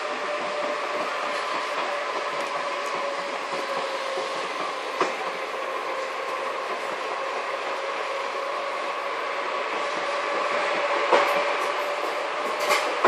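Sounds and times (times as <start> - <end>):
train ride noise with hum: 0.0 - 13.0.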